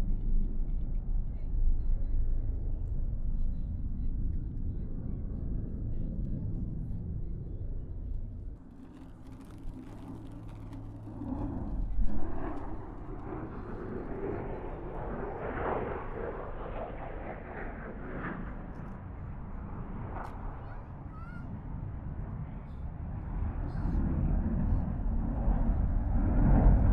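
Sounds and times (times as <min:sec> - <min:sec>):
distant jet engine rumble: 0:00.0 - 0:26.9.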